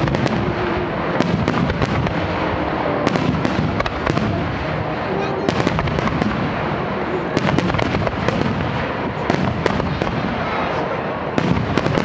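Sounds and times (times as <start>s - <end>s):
firework cracks: 0.0s - 12.0s
fireworks dense rumble: 0.0s - 12.0s.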